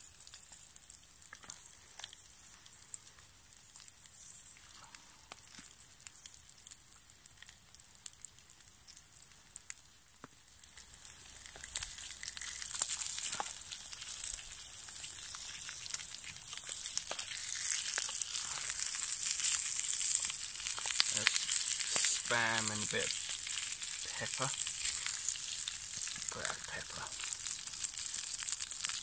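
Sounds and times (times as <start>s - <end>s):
faint crackles: 0.0s - 29.0s
meat sizzling in a pan: 0.0s - 29.0s.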